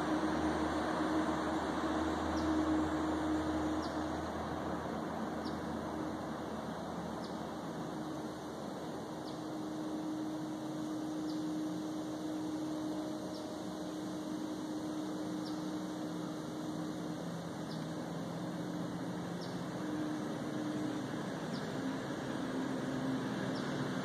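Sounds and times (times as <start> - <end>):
distant airplane drone: 0.0 - 24.0.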